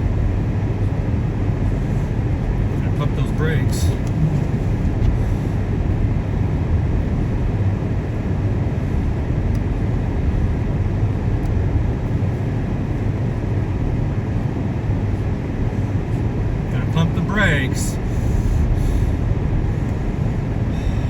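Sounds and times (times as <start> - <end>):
car driving on snow: 0.0 - 21.0.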